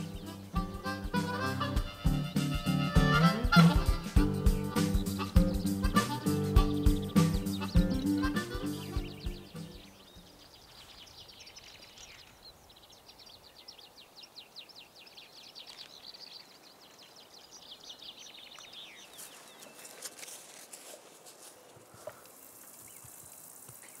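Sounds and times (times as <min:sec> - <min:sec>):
bird chirping in trills: 0:00.0 - 0:20.1.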